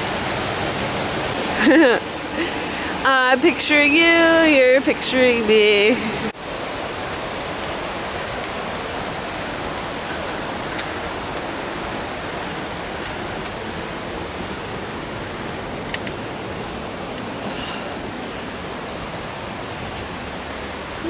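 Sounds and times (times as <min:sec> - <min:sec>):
waterfall and rapids rushing: 0:00.0 - 0:21.0.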